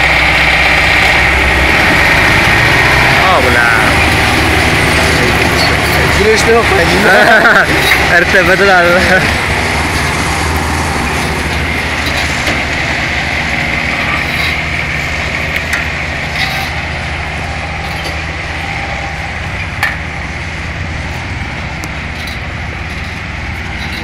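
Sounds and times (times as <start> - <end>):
engine knocks: 0.0 - 24.0
engine running: 0.0 - 24.0.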